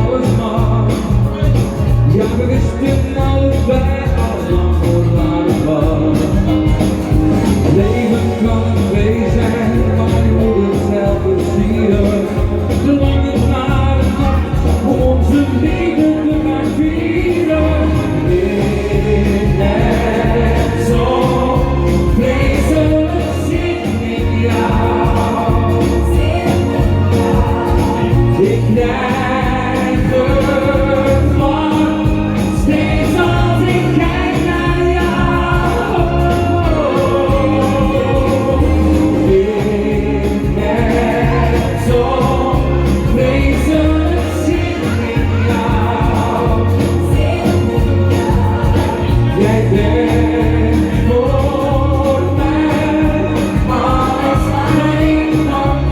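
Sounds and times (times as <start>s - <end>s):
choir-like backing vocals: 0.0s - 55.9s
person singing pop song: 0.0s - 55.9s.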